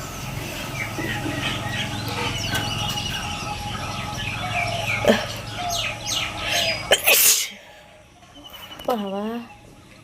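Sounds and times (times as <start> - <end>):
birds chirping: 0.0 - 10.0
steady low hum: 0.0 - 10.0.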